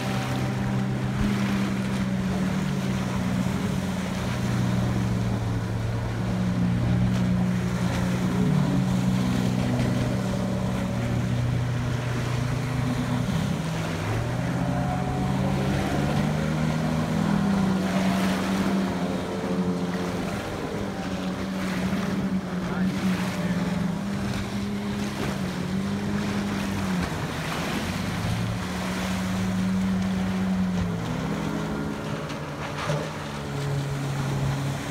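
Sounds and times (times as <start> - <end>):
outboard motor drone: 0.0 - 34.9
water noise: 0.0 - 34.9
wind: 0.0 - 34.9.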